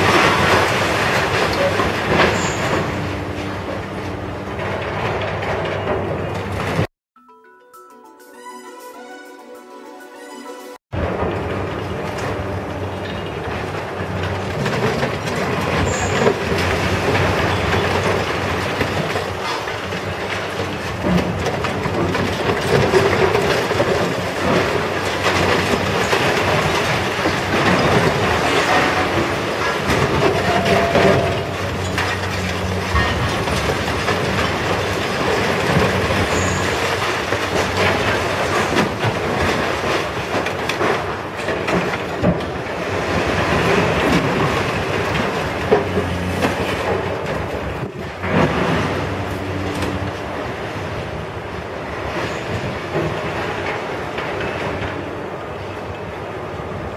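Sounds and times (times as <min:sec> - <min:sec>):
breaking concrete and falling rubble: 0:00.0 - 0:06.9, 0:11.0 - 0:55.0
crashing debris: 0:00.0 - 0:06.9, 0:11.0 - 0:55.0
excavator crusher tearing concrete: 0:00.0 - 0:06.9, 0:11.0 - 0:56.9.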